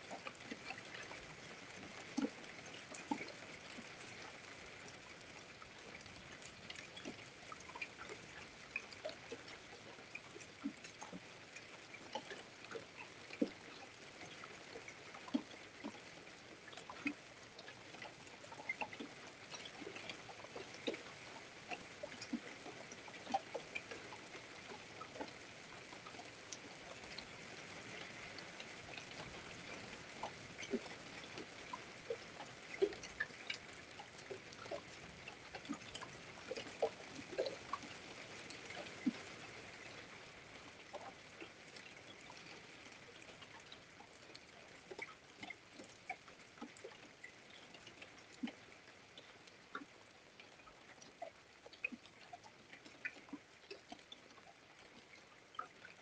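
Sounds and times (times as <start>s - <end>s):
faint steady rain hiss: 0.0s - 56.0s
raindrops ticking on surfaces: 0.0s - 56.0s.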